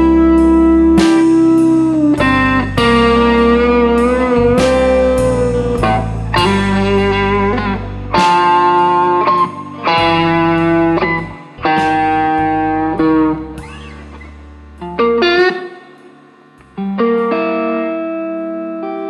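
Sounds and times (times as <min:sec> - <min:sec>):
electric guitar blues chords: 0:00.0 - 0:19.0.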